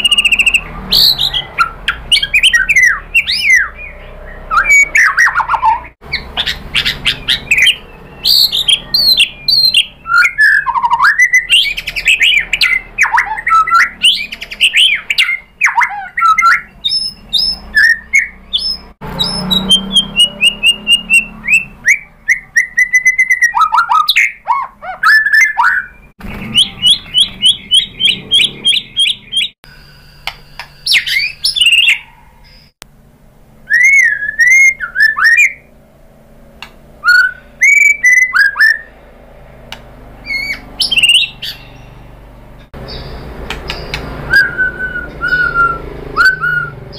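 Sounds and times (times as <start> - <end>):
songbird singing varied song: 0.0 - 32.8, 37.0 - 39.0, 39.6 - 46.9.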